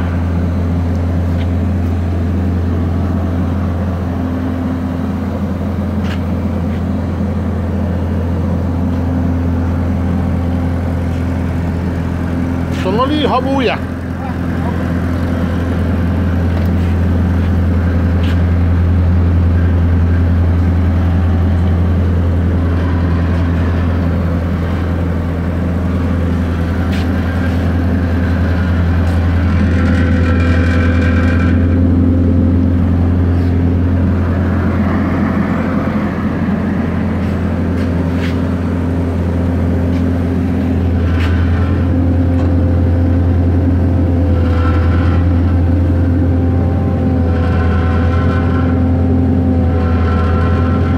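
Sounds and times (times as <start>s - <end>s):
forklift engine idling: 0.0s - 50.9s.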